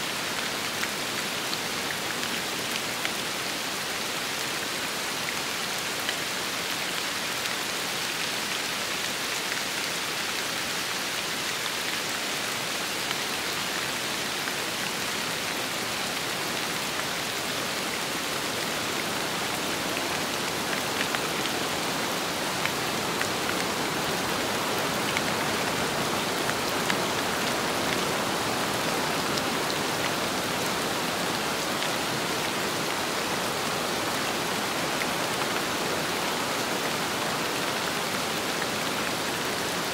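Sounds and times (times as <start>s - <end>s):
steady rain: 0.0s - 39.9s
wind: 0.0s - 39.9s.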